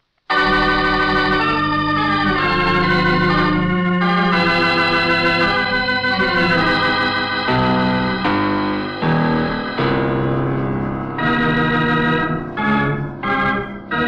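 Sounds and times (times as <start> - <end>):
organ playing slow chords: 0.3 - 14.0.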